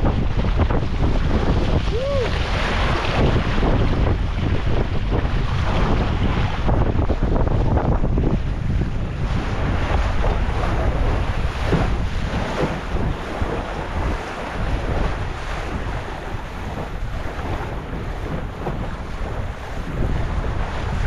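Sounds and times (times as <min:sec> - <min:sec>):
choppy water slapping hull: 0:00.0 - 0:21.0
wind buffeting microphone: 0:00.0 - 0:21.0.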